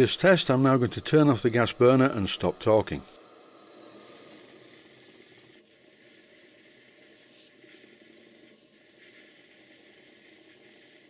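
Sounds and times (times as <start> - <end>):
model steam engine hissing: 0.0 - 11.0.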